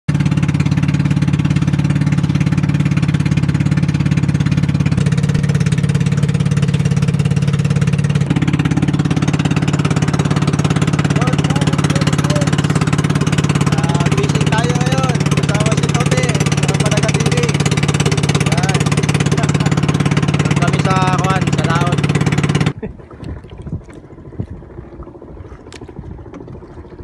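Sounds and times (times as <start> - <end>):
boat engine chugging: 0.1 - 27.0.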